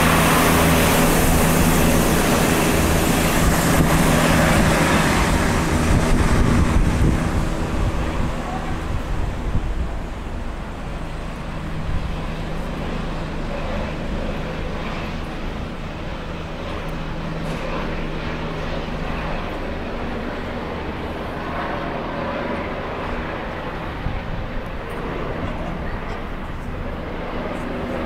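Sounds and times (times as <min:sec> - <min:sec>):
helicopter drone: 0:00.0 - 0:28.0.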